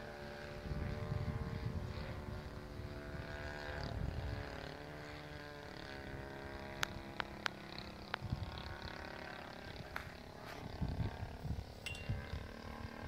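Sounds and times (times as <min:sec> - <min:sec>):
model plane engine droning: 0:00.0 - 0:13.0
wind rumbling on microphone: 0:00.0 - 0:13.0.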